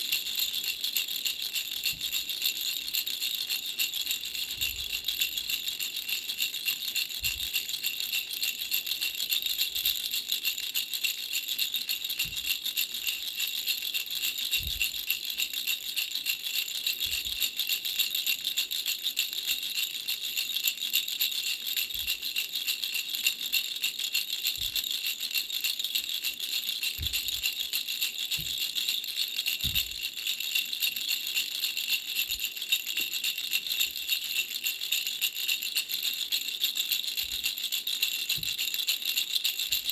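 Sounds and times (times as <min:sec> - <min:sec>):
bell rattle jingling: 0:00.0 - 0:39.9.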